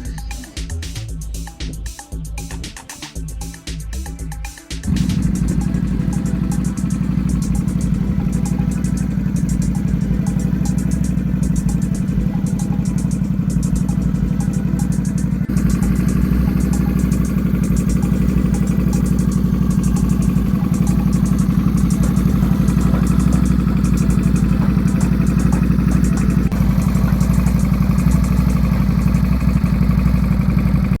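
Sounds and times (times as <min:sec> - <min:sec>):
motorcycle engine running: 0:04.8 - 0:31.0.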